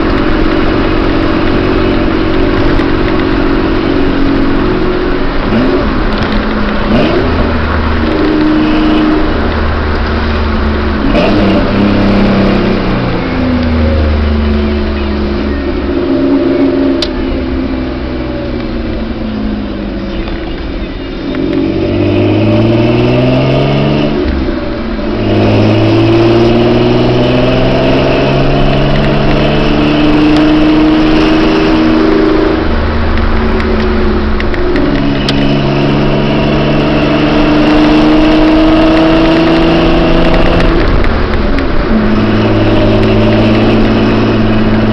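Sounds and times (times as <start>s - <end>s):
truck exhaust while driving: 0.0s - 44.9s.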